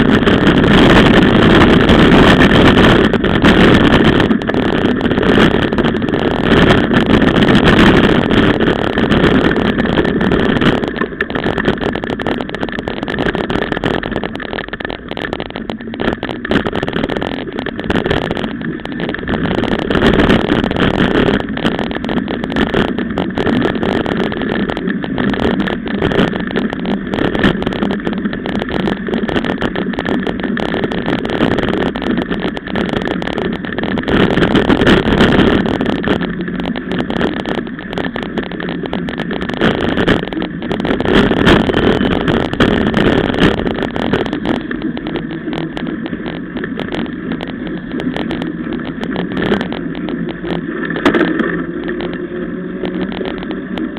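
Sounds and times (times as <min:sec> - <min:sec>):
bike rattles and knocks: 0:00.0 - 0:53.9
wind and tyre rush: 0:00.0 - 0:53.9.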